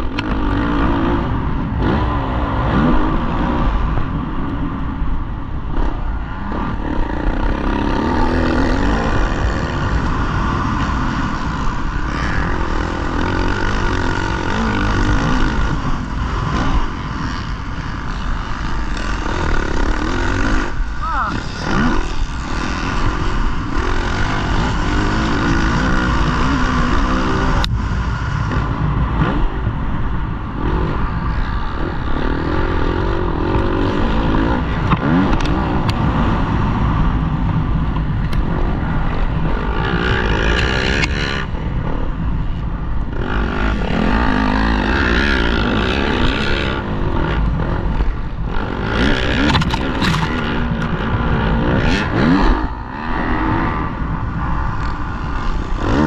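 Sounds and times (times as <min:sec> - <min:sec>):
motocross bike engine revving: 0:00.0 - 0:42.4, 0:43.0 - 0:56.0.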